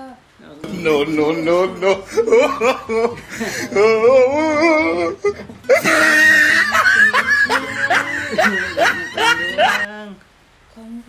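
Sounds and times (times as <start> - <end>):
person laughing hard: 0.7 - 9.9.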